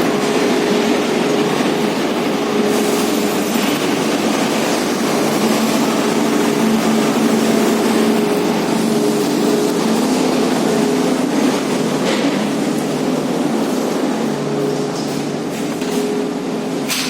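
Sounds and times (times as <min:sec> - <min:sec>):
electric arc furnace roaring: 0:00.0 - 0:17.0
steady multi-tone hum: 0:00.0 - 0:17.0.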